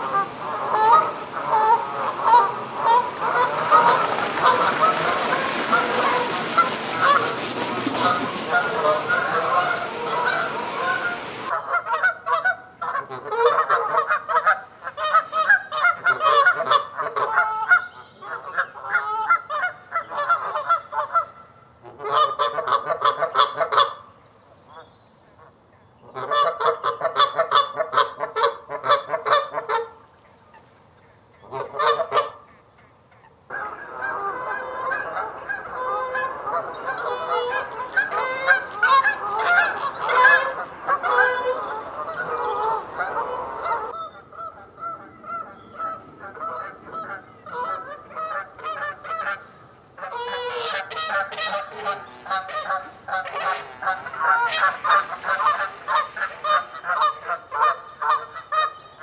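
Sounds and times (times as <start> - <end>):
geese honking: 0.0 - 24.0, 31.4 - 32.5, 33.5 - 59.0.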